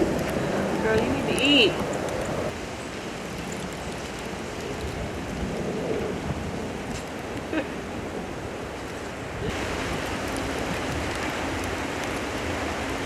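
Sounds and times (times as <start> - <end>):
wind hissing on microphone: 0.0 - 13.0.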